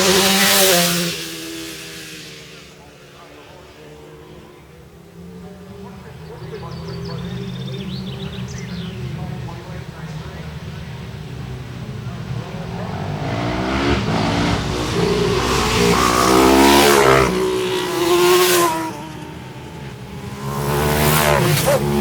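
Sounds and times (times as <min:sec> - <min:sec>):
racing motorcycles passing: 0:00.0 - 0:22.0.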